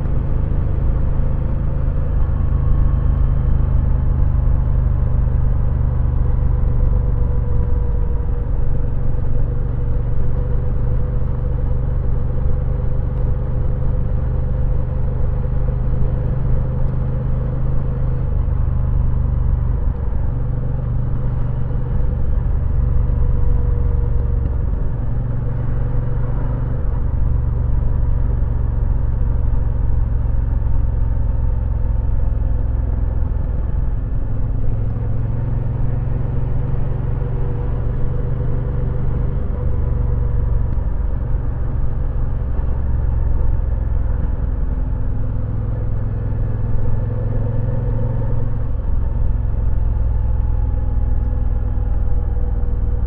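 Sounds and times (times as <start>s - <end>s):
motorcycle engine drone: 0.0s - 53.0s.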